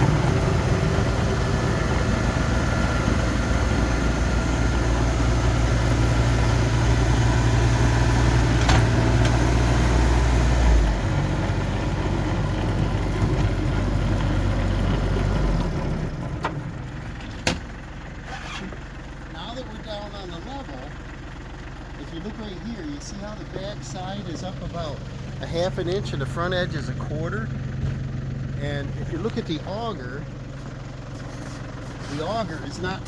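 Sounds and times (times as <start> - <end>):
old tractor engine running: 0.0 - 33.0.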